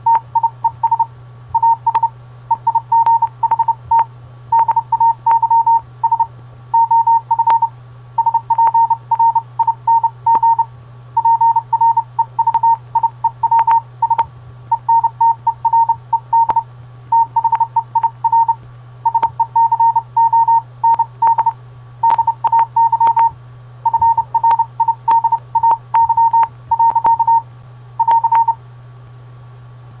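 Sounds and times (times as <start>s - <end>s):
morse code beeps: 0.0s - 27.4s, 28.0s - 28.6s
steady low hum: 0.0s - 30.0s.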